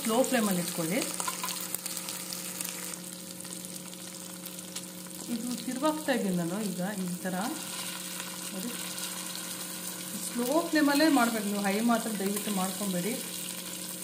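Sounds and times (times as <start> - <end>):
food sizzling in oil: 0.0 - 14.0
low steady hum: 0.0 - 14.0.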